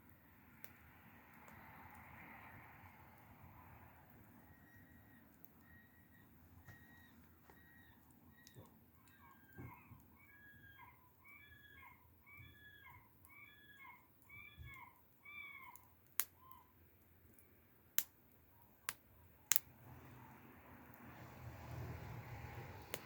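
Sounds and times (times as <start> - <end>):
wood crackling in a bonfire: 0.0 - 23.0.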